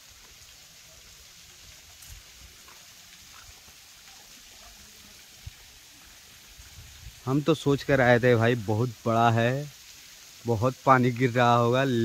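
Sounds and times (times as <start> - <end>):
thin waterfall splashing: 0.0 - 12.0.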